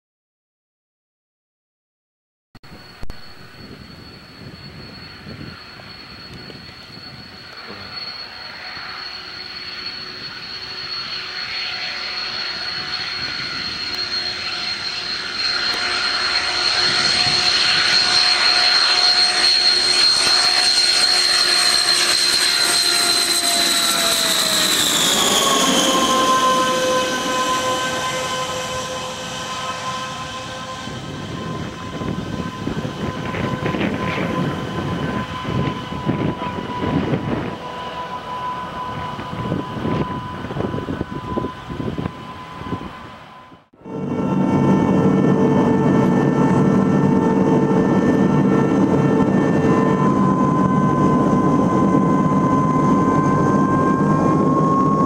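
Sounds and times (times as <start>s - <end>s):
turboprop engines whining: 2.6s - 55.0s.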